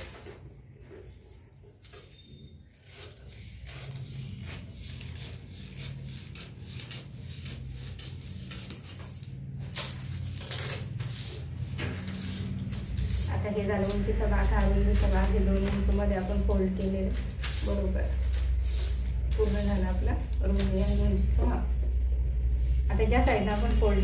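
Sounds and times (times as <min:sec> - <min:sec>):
scissors cutting paper: 0:00.0 - 0:24.0
paper rustling: 0:02.8 - 0:24.0.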